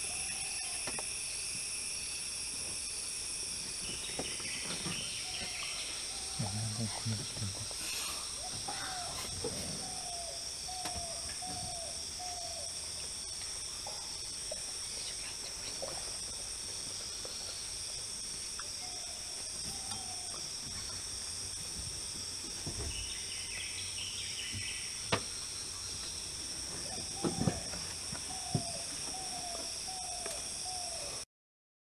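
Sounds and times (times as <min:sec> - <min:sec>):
high-pitched insect drone: 0:00.0 - 0:31.2.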